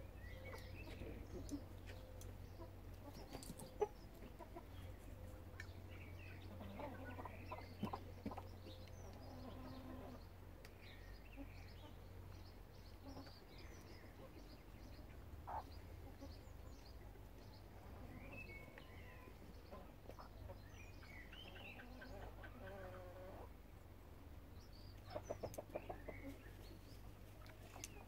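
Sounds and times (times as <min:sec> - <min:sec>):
hens and small birds chirping: 0:00.0 - 0:28.0
low steady hum: 0:00.0 - 0:28.0.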